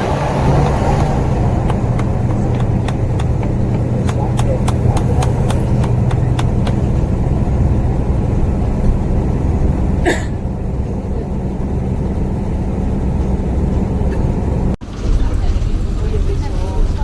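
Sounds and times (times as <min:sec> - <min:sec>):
diesel bus engine drone: 0:00.0 - 0:17.0.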